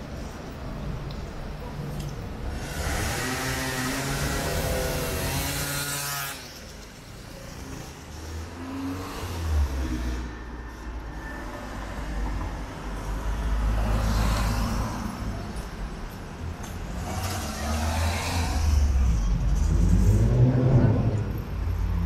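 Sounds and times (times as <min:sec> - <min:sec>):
cars driving by: 0:00.0 - 0:22.0.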